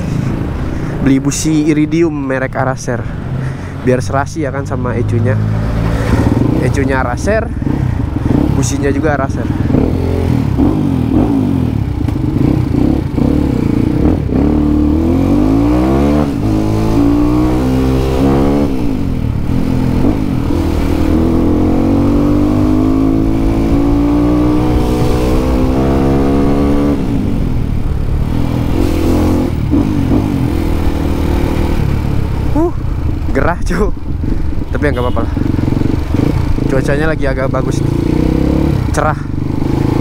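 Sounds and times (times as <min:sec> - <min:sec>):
motorcycle engine revving: 0:04.6 - 0:40.0.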